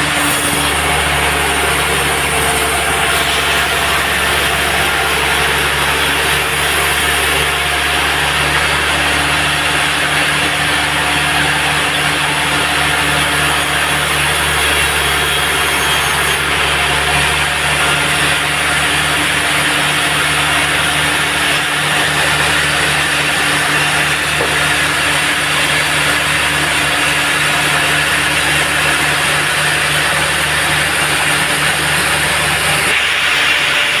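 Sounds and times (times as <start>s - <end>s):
band saw cutting log: 0.0s - 34.0s.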